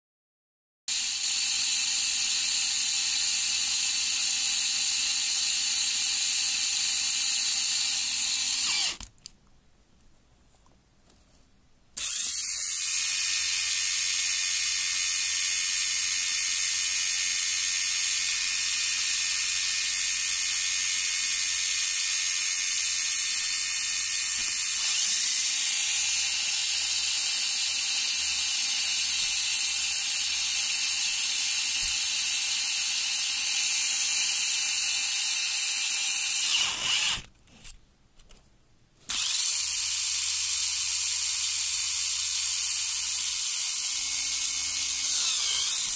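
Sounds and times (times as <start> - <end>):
small electric motor whining: 0.9 - 9.0, 12.0 - 37.3, 39.1 - 45.9.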